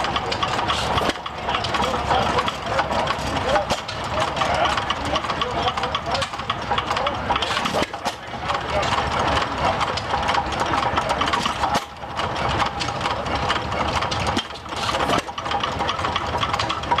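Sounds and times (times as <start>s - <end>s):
old gas engine clattering: 0.0s - 17.0s.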